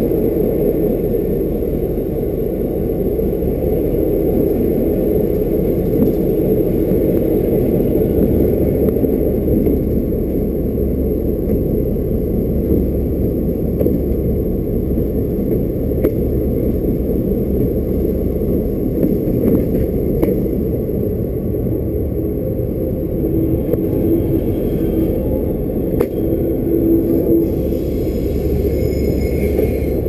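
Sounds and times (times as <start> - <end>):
train rumbling slowly: 0.0 - 30.0.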